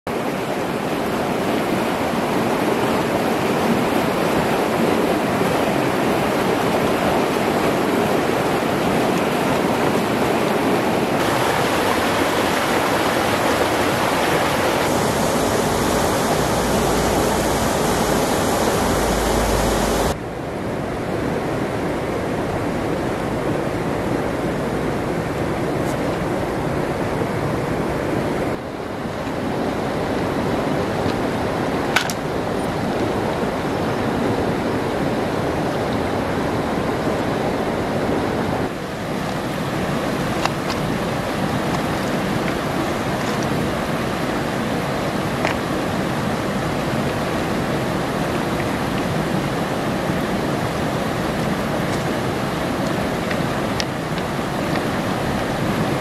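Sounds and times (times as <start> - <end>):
stream rapids rushing over stones: 0.1 - 56.0.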